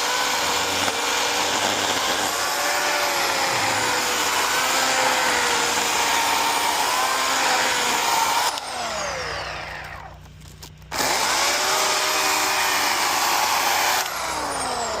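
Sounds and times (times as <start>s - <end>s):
chainsaw revving and idling: 0.0s - 10.0s, 10.9s - 15.0s.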